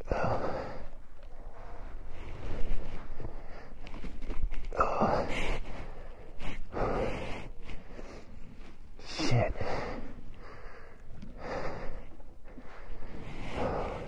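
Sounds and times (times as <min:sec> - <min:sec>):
heavy breathing: 0:00.0 - 0:14.0.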